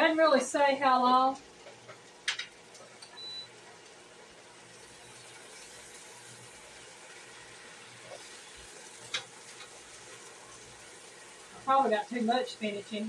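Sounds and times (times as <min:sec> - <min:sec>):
spinach sizzling in a pan: 0:00.0 - 0:13.0.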